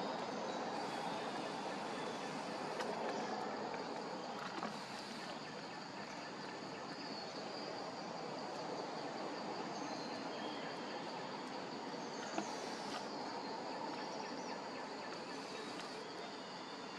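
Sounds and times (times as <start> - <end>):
faint insect buzz: 0.0 - 16.9
outdoor background noise: 0.0 - 16.9.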